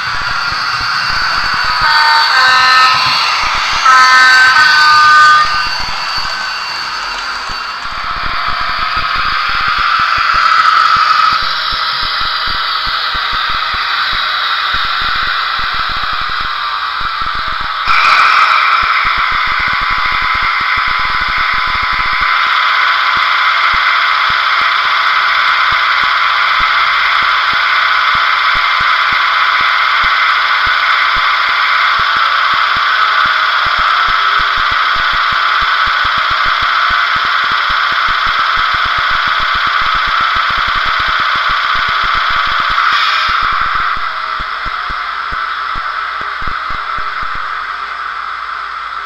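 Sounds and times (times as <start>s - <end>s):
high whine: 0.0s - 49.0s.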